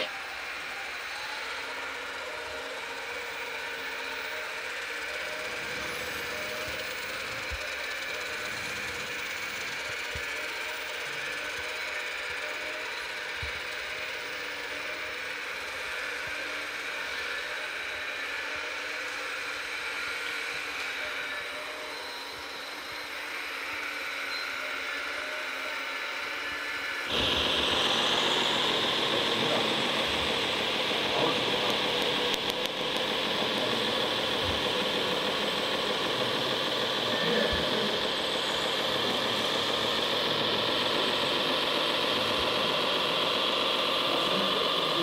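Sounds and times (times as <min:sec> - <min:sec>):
toy truck motor and gear whine: 0:00.0 - 0:45.0.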